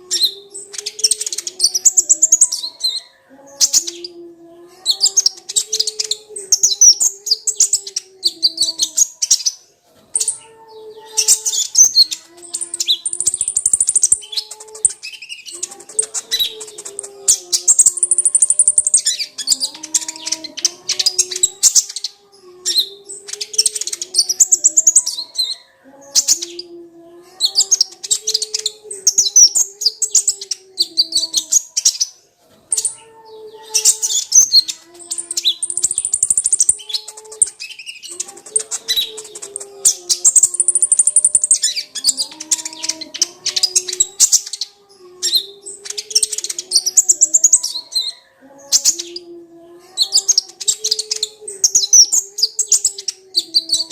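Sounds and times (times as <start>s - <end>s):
bird chattering and twittering: 0.0s - 53.9s.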